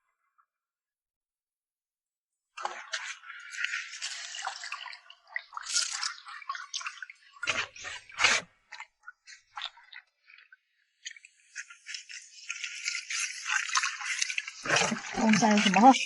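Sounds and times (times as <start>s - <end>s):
water dripping and splashing: 2.6s - 16.0s.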